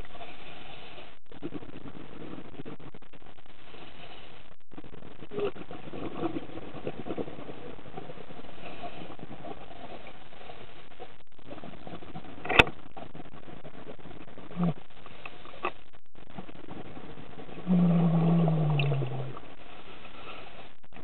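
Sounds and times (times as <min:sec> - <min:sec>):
underwater rumble: 0:00.0 - 0:21.0.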